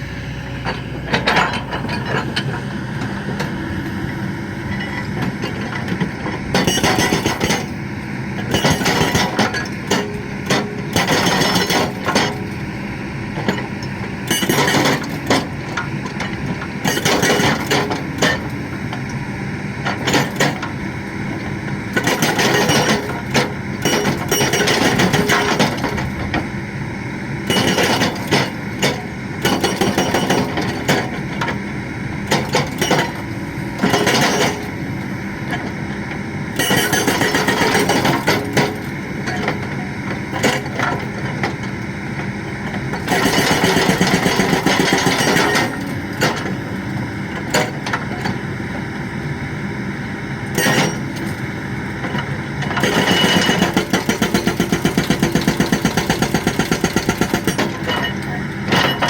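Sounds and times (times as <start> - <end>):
excavator engine running: 0.0 - 59.0
hydraulic breaker hammering: 4.7 - 7.8, 8.4 - 12.6, 13.2 - 19.2, 19.8 - 26.7, 27.4 - 46.8, 50.5 - 59.0.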